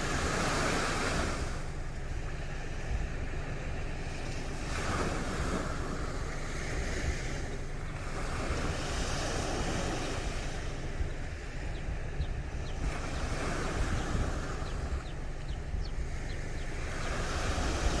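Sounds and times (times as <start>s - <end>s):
sea waves breaking on beach: 0.0s - 1.8s, 4.1s - 11.8s, 12.4s - 18.0s
wind rumbling on microphone: 0.0s - 18.0s.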